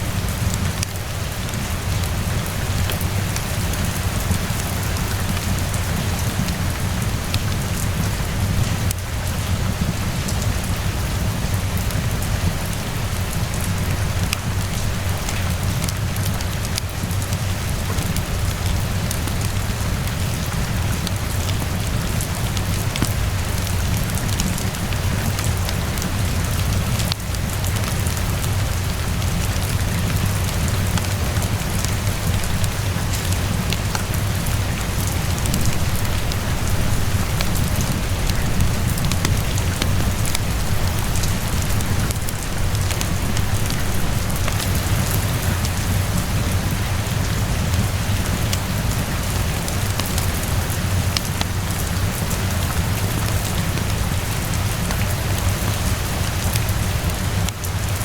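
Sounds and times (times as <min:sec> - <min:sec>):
steady rainfall: 0:00.0 - 0:58.0
wood fire crackling: 0:00.1 - 0:57.9.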